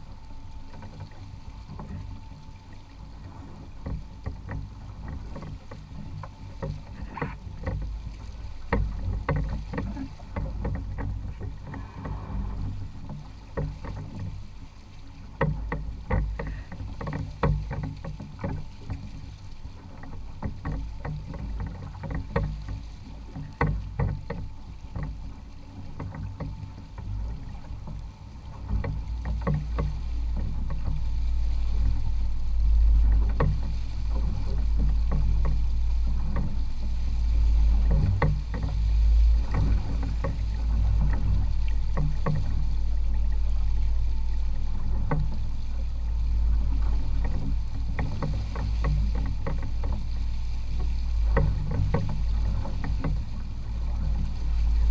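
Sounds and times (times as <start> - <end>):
low steady rumble: 0.0 - 54.9
water splashing around boat hull: 0.0 - 54.9.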